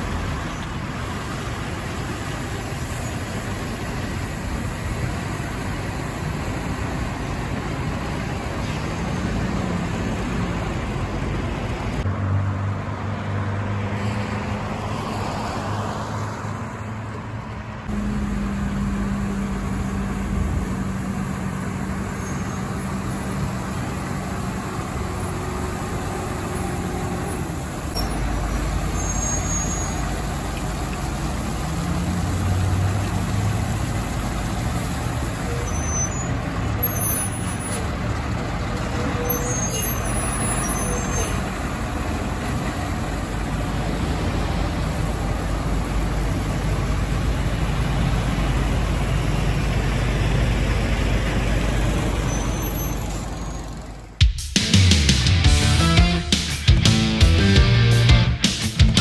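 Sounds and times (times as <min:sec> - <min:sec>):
diesel engine humming: 0:00.0 - 0:13.2, 0:14.4 - 0:59.0.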